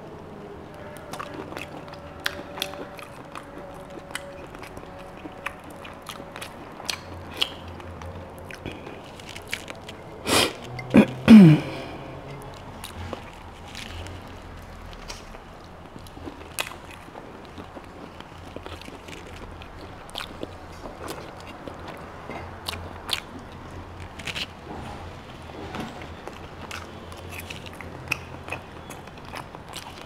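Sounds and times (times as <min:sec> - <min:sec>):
person chewing: 0:00.7 - 0:24.6, 0:25.6 - 0:30.0.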